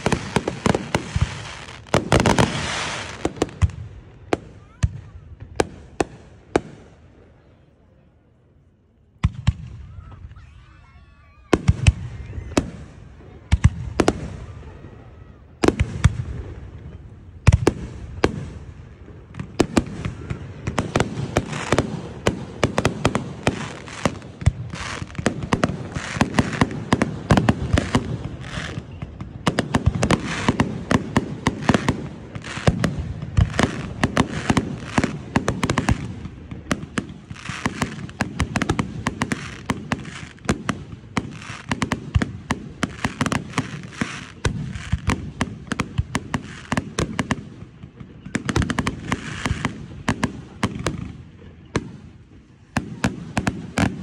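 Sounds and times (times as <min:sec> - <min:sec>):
firework crackling: 0:00.0 - 0:07.4, 0:09.2 - 0:54.0.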